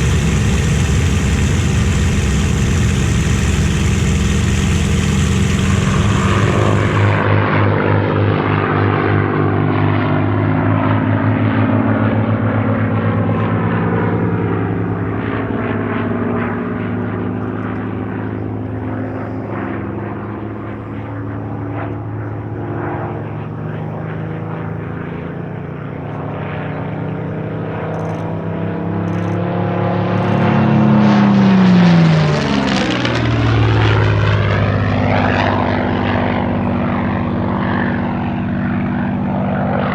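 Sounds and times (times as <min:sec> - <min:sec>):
aircraft passing close by: 0:00.0 - 0:39.9
propeller aircraft engine roaring: 0:00.0 - 0:39.9.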